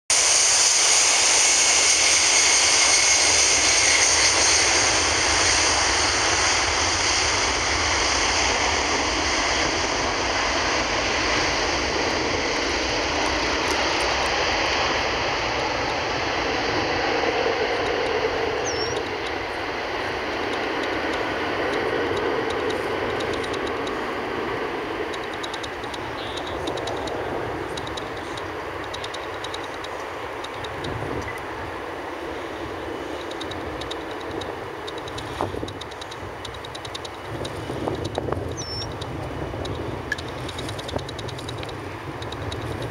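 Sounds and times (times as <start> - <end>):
jet engines at takeoff power: 0.1 - 42.9.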